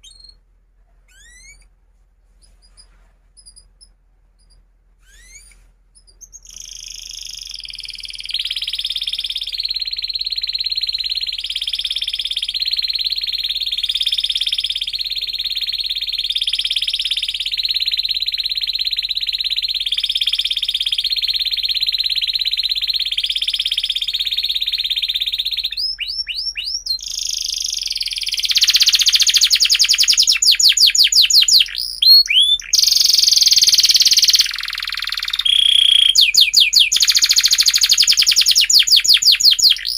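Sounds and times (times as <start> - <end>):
canary singing trills: 0.0 - 0.4, 1.1 - 1.7, 2.4 - 39.9.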